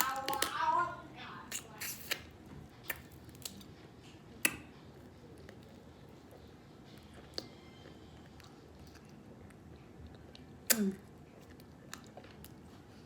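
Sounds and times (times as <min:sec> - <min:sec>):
person chewing: 0:01.5 - 0:13.0.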